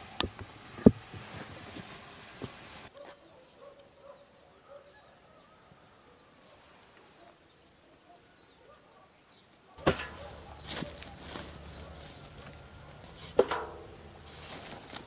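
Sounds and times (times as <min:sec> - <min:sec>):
faint birds chirping: 0:02.8 - 0:15.0.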